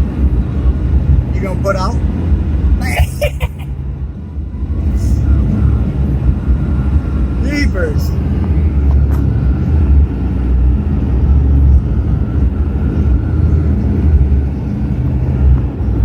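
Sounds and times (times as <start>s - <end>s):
truck engine and tyre rumble: 0.0s - 16.0s.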